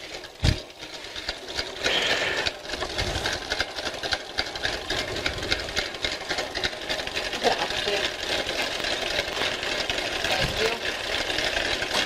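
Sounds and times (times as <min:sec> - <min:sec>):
stand mixer rattling whir: 0:00.0 - 0:12.0.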